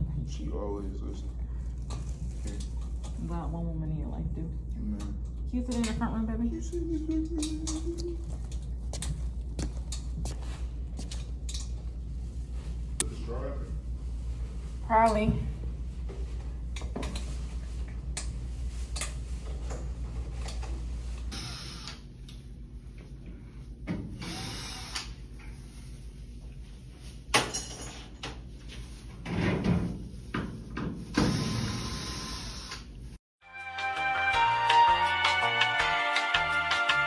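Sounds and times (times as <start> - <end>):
steady low hum: 0.0 - 33.2.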